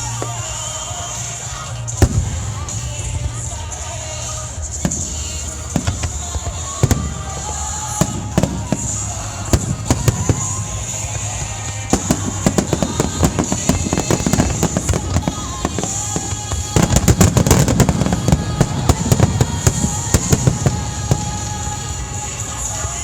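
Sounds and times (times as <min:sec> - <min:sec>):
firework crackling: 0:00.0 - 0:23.0
firework shell bursts: 0:00.0 - 0:23.0.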